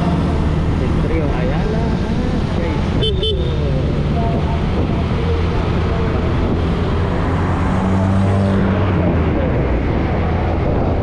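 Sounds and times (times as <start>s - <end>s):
vehicle engines in traffic: 0.0s - 11.0s.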